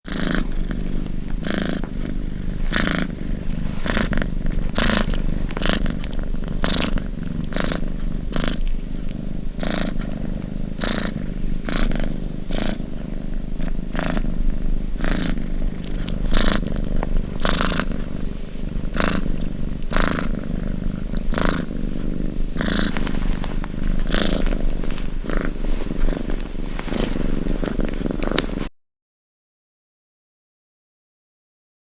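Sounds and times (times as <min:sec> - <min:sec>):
cat purring: 0:00.0 - 0:28.7.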